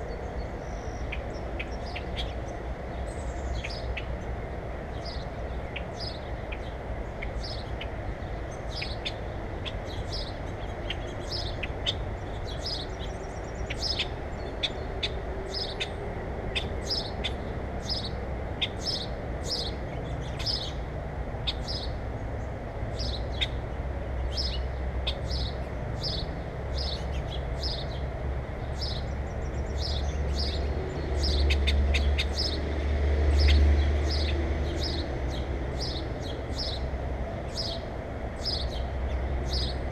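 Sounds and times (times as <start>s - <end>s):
small birds chirping: 0.0s - 20.8s, 21.4s - 32.7s, 33.3s - 39.9s.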